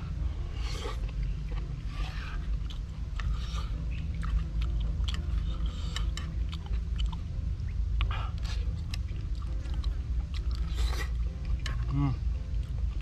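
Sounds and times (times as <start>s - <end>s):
person chewing: 0.0s - 13.0s
steady low rumble: 0.0s - 13.0s.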